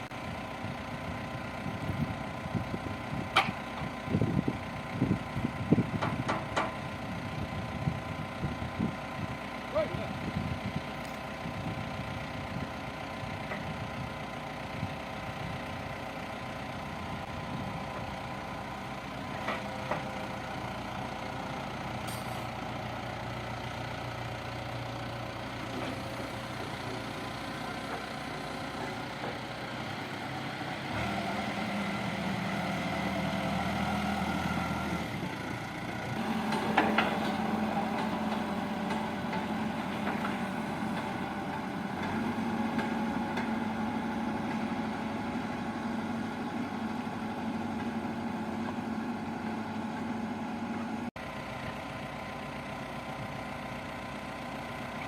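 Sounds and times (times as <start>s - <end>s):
diesel engine revving: 0.0s - 51.6s.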